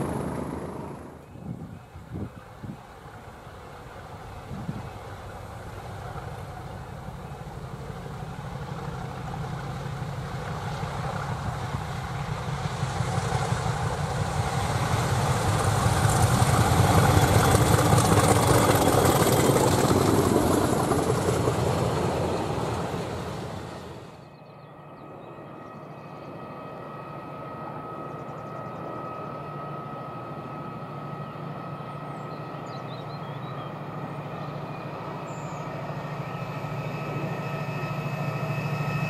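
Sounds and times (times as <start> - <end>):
diesel locomotive engine: 0.0 - 39.0.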